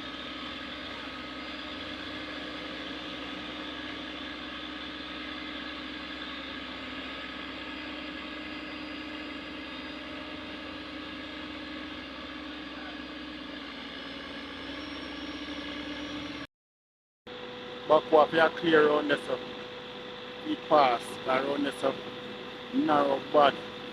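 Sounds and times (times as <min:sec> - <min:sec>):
vehicle engine humming: 0:00.0 - 0:16.5, 0:17.3 - 0:23.9.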